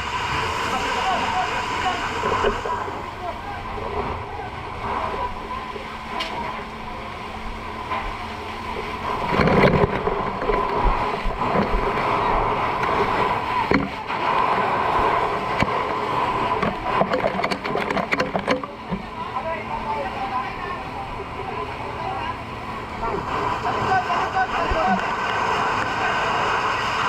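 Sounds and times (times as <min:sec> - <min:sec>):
engines running: 0:00.0 - 0:27.0
fire hose water rushing: 0:00.0 - 0:27.0
steady high hum: 0:00.0 - 0:27.0.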